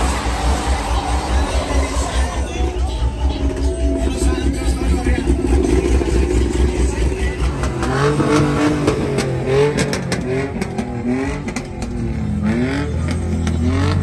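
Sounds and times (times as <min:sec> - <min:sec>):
pickup truck engine revving: 0:00.0 - 0:14.0.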